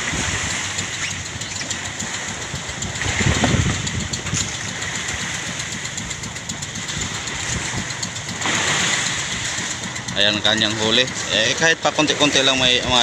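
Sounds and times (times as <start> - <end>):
boat engine idling: 0.0 - 13.0
water noise: 0.0 - 13.0
wind: 0.0 - 13.0.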